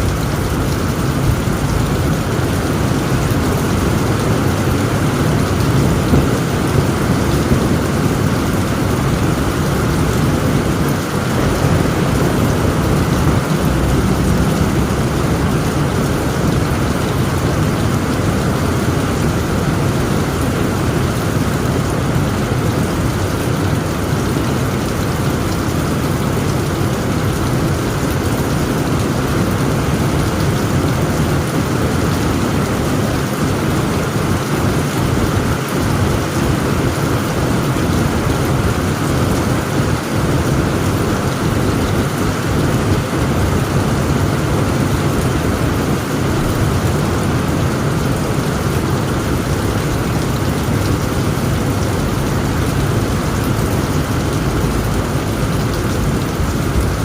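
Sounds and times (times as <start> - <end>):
low rumble of thunder: 0.0 - 26.6, 37.2 - 57.0
rain drumming on a tent roof: 0.0 - 57.0.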